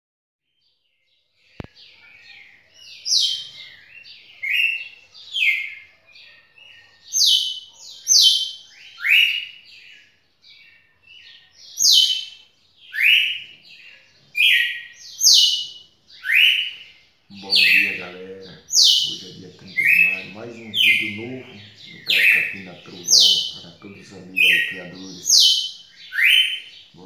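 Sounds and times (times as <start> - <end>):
bird singing whistled notes: 1.5 - 27.0.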